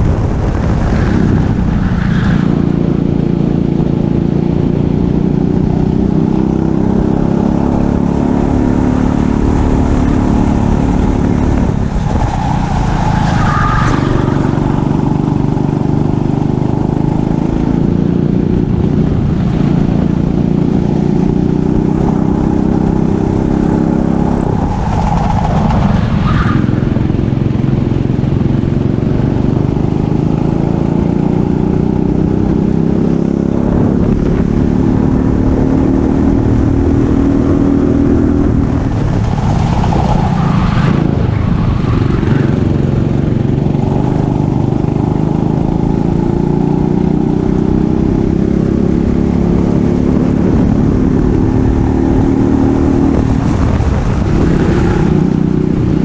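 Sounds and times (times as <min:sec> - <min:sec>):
go-kart engine accelerating: 0:00.0 - 0:56.0.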